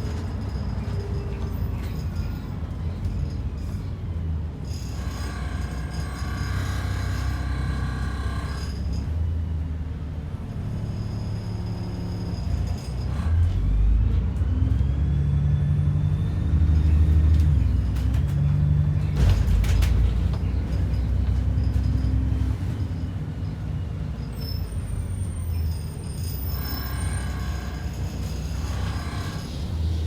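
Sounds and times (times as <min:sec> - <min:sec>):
bus diesel engine: 0:00.0 - 0:30.0.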